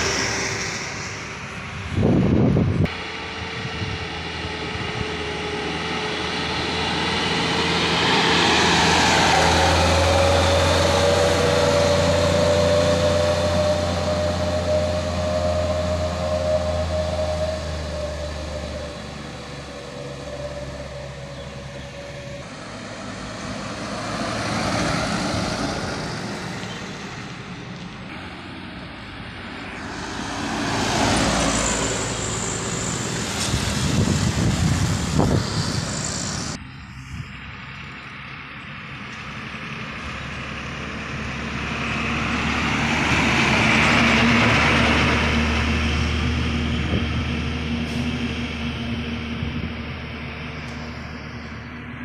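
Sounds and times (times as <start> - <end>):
diesel truck engines labouring: 0.0 - 52.0.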